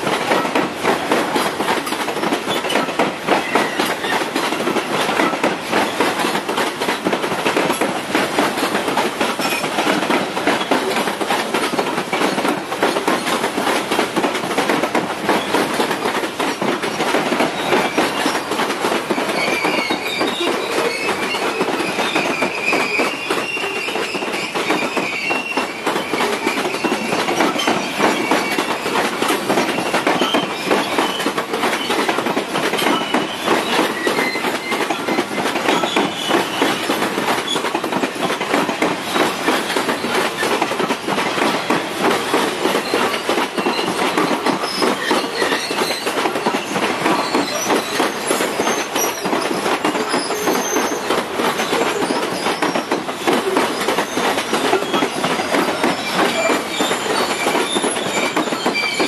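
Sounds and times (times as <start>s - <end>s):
train wheels clattering over rails: 0.0s - 59.0s.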